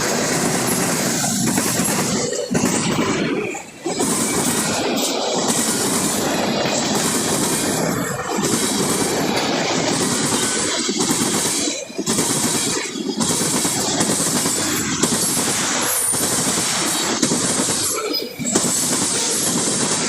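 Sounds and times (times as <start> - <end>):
freight train rushing and rattling: 0.0 - 20.0.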